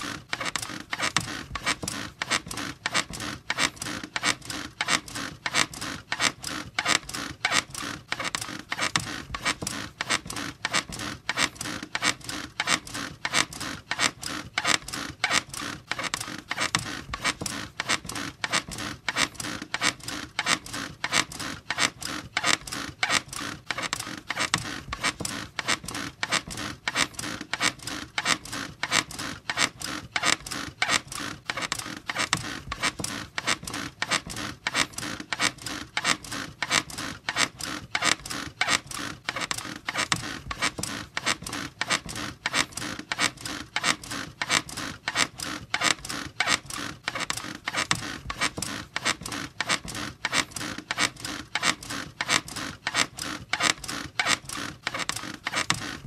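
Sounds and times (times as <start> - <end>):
bed springs squeaking: 0.0 - 56.0.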